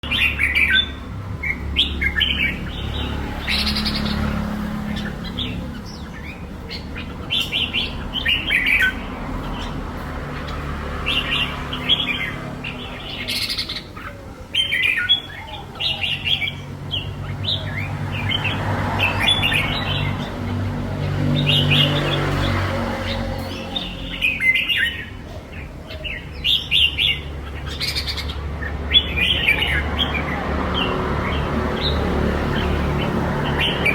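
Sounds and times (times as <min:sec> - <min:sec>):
bird chirping and warbling: 0:00.0 - 0:33.9.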